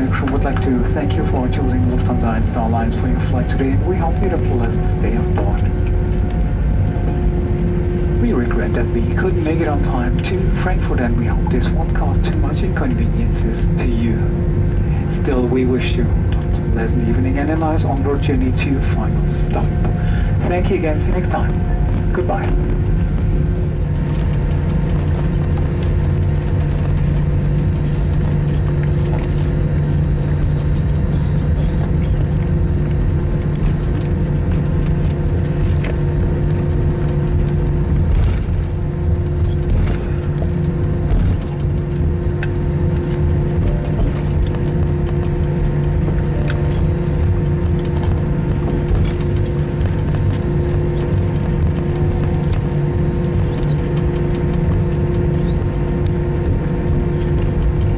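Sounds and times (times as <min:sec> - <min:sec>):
aircraft cabin drone: 0:00.0 - 0:57.9
constant whine: 0:00.0 - 0:57.9.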